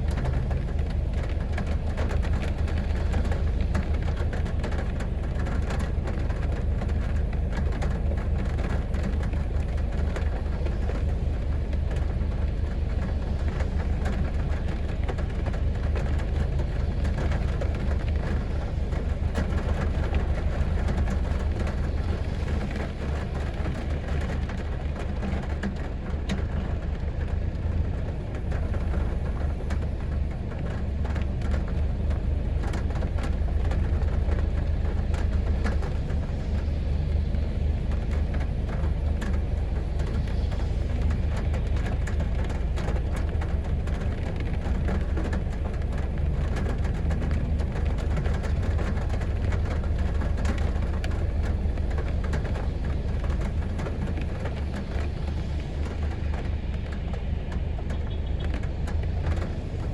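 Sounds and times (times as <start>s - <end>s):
deep low rumble: 0.0s - 59.9s
heavy rain on a street: 0.0s - 59.9s.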